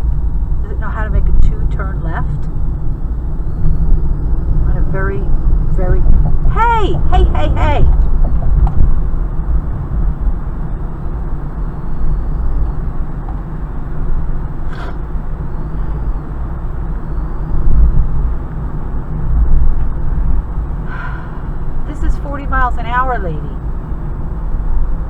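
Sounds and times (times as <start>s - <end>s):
car cabin road rumble: 0.0s - 25.0s.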